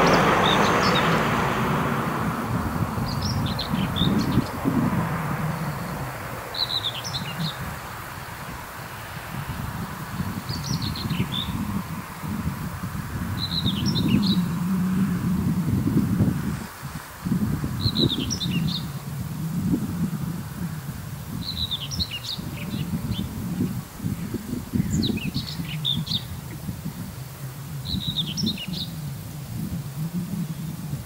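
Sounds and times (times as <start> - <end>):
small songbird chirping: 0.0 - 12.4, 13.2 - 16.2, 17.6 - 20.1, 21.3 - 30.9
wind rumble on microphone: 0.0 - 31.0.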